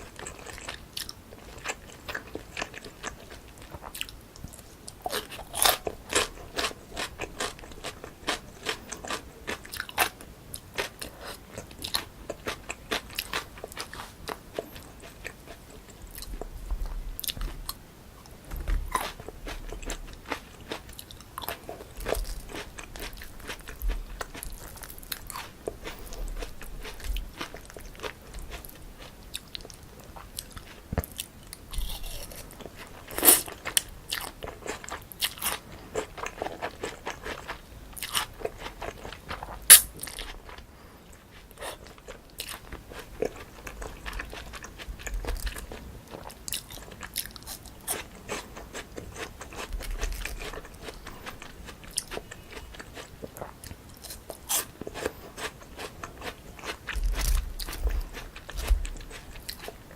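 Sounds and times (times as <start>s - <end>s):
crunching and chewing food: 0.0s - 59.9s.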